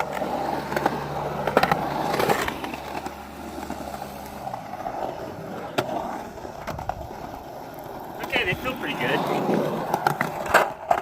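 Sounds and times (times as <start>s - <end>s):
skateboard clacks: 0.0s - 11.0s
skateboard wheels rolling on concrete: 0.0s - 11.0s.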